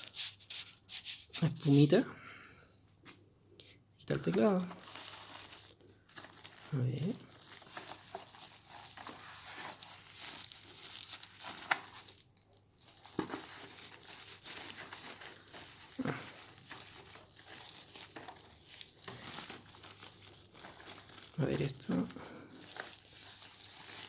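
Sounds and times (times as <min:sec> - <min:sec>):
plastic packaging crinkling: 0:04.1 - 0:24.0.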